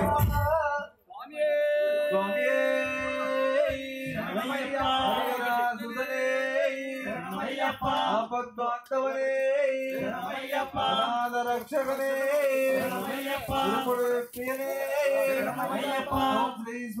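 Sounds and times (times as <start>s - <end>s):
men singing a chant: 0.0s - 17.0s.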